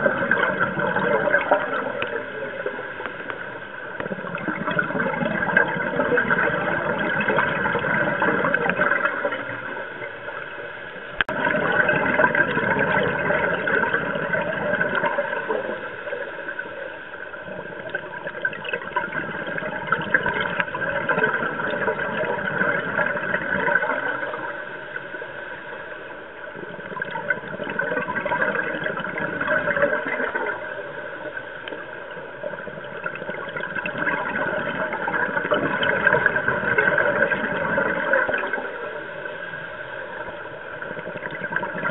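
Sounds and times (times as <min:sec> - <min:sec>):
steady hum: 0:00.0 - 0:41.9
underwater bubbles gurgling: 0:00.0 - 0:41.9.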